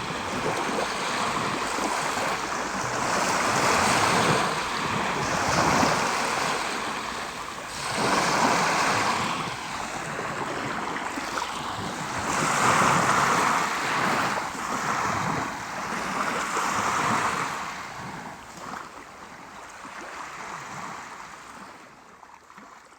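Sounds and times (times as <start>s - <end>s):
sea waves washing ashore: 0.0s - 21.5s.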